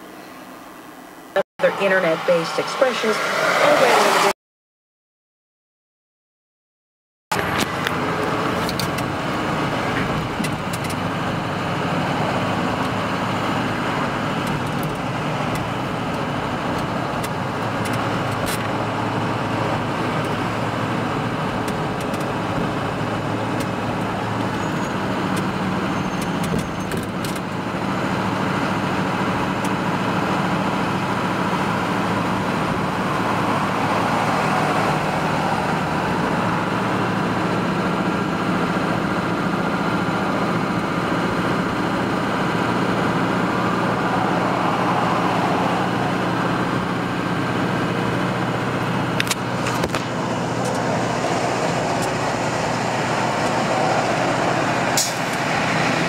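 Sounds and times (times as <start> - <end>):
car engine and road noise: 0.0 - 4.4, 7.3 - 56.0.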